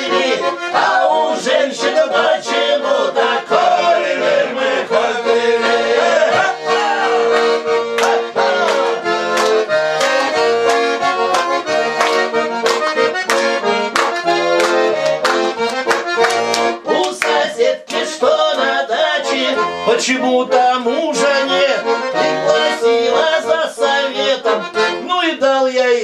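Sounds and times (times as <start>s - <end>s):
accordion playing: 0.0s - 26.0s.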